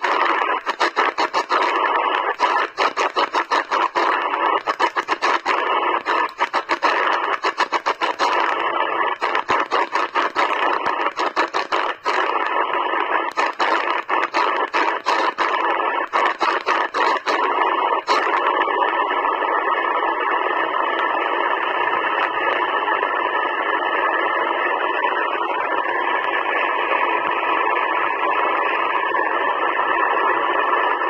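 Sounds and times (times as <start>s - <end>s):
shortwave radio band noise hiss: 0.0s - 31.0s.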